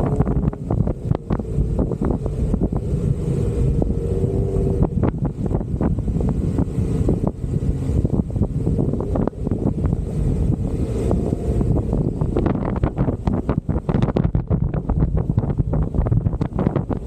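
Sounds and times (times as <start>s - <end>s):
off-road vehicle engine rumble: 0.0s - 17.0s
wind buffeting microphone: 0.0s - 17.0s.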